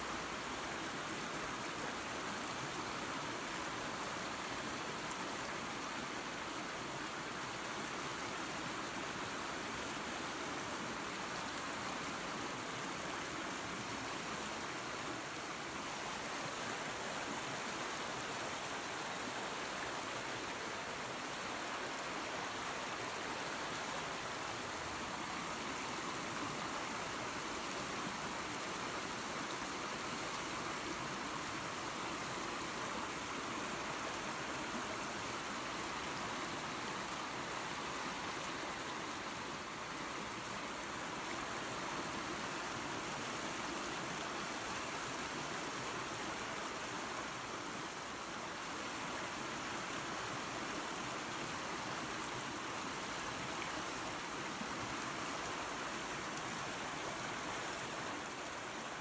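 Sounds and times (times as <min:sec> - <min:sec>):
waterfall and creek rushing: 0:00.0 - 0:59.0.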